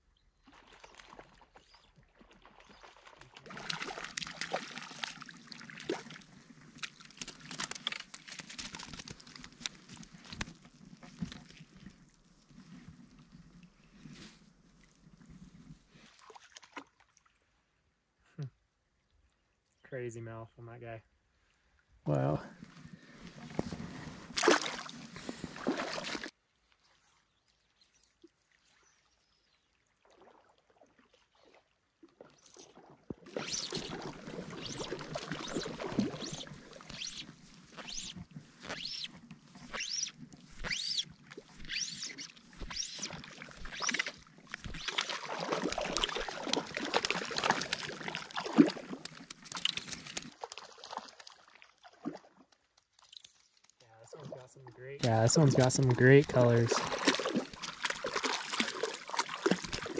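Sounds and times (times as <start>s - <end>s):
water splashing and sloshing: 0.4s - 17.7s, 21.4s - 59.9s.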